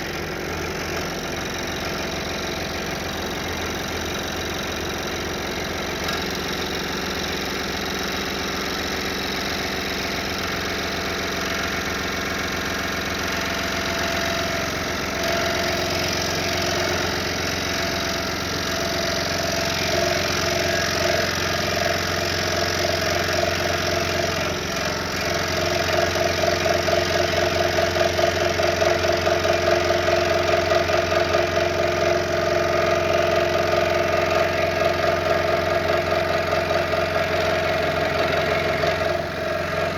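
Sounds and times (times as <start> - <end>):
motor hum: 0.0 - 39.9
scroll saw cutting wood: 0.0 - 39.9.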